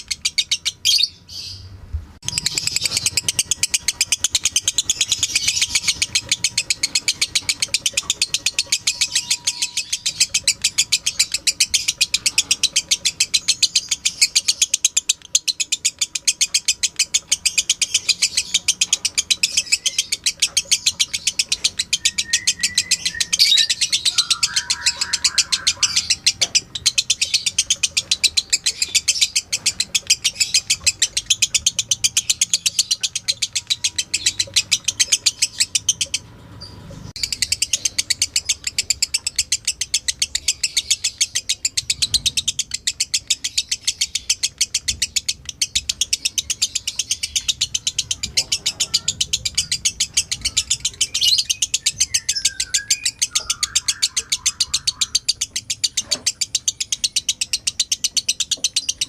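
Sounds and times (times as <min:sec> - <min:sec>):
lovebird chattering: 0:00.0 - 0:01.6, 0:02.2 - 0:59.0.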